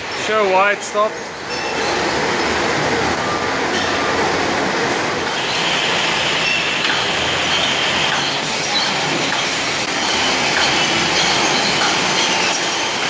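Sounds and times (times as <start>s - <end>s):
crates moving over metal rollers: 0.0s - 13.0s
roller conveyor running: 0.0s - 13.0s.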